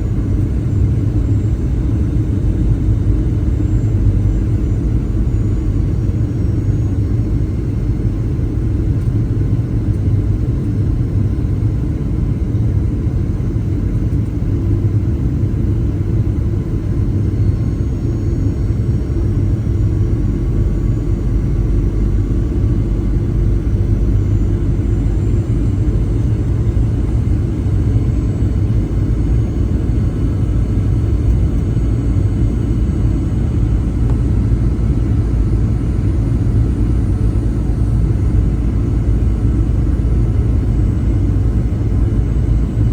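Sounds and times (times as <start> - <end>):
airplane cabin rumble: 0.0 - 42.9
faint jet engine whine: 0.0 - 42.9.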